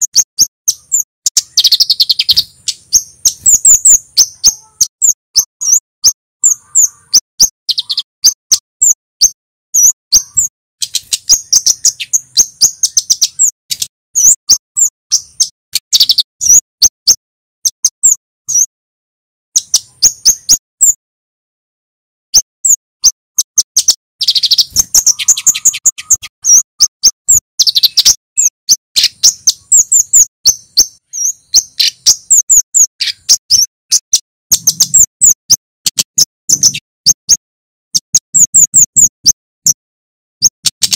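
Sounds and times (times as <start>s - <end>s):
bird singing high chirps: 0.0s - 18.7s, 19.5s - 21.0s, 22.3s - 39.8s, 40.4s - 40.9s.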